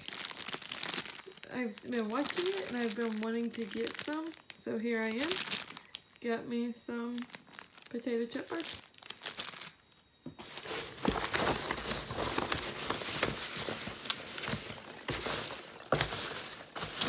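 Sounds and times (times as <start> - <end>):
candy packaging crinkling: 0.0 - 6.3, 7.0 - 17.0.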